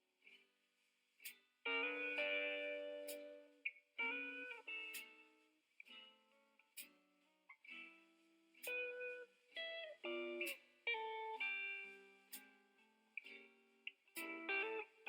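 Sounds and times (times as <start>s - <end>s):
guitar playing plucked chords: 1.7s - 15.0s.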